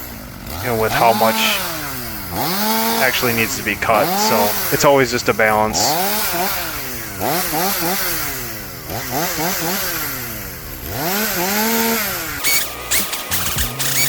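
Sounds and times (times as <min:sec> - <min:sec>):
chainsaw revving and cutting: 0:00.0 - 0:14.0.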